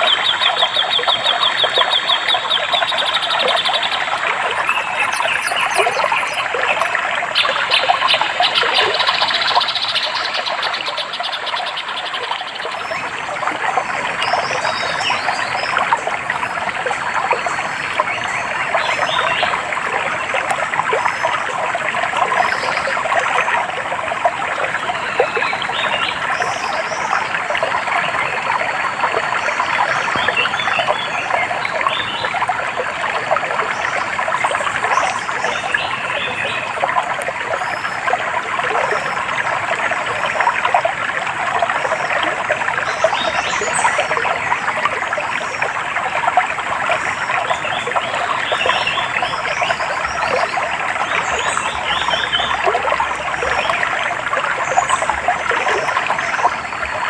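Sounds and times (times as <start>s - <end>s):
water trickling in a stream: 0.0s - 57.0s.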